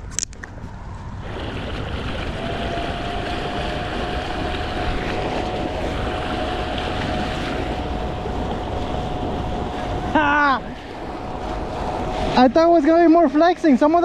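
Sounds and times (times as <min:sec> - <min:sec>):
wind on microphone: 0:00.0 - 0:14.0
water rushing: 0:00.4 - 0:14.0
electric outboard motor whine: 0:00.5 - 0:13.3.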